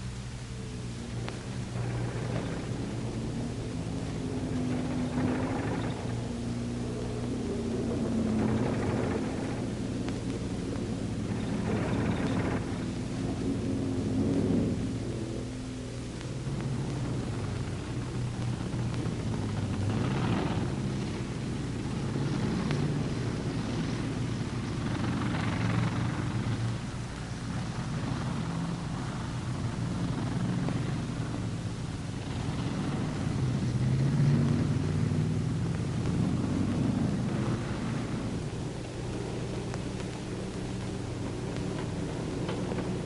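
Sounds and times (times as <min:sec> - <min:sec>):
rushing noise: 0:00.0 - 0:43.0
tank engines droning: 0:00.0 - 0:43.0.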